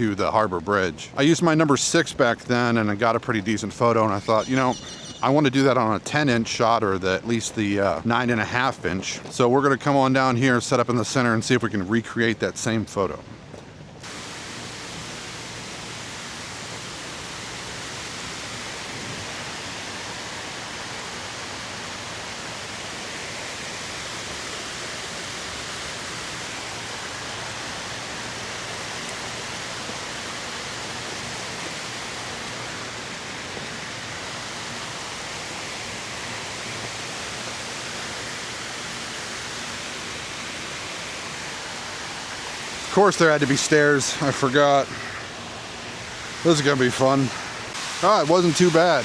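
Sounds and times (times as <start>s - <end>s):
fountain water rushing: 0.0s - 13.2s, 14.0s - 49.0s.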